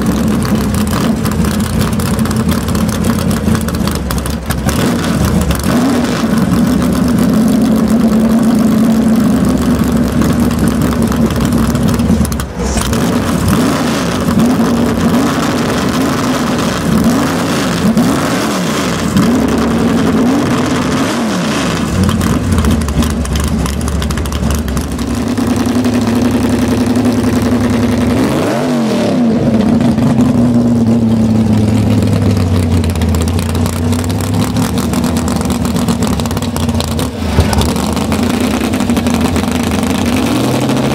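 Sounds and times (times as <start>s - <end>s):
drag racing car engines revving: 0.0s - 40.9s.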